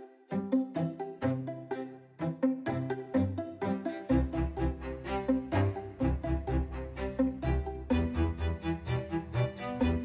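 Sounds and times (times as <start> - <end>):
string instruments playing short notes: 0.0 - 10.0.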